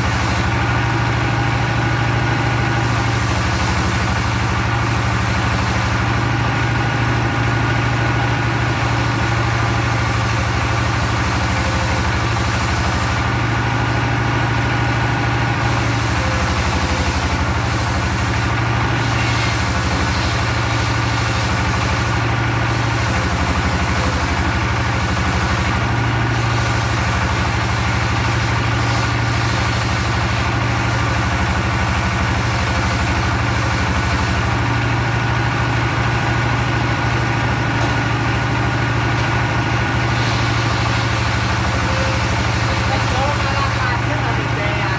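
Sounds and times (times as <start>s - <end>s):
sawmill engine droning: 0.0s - 44.9s.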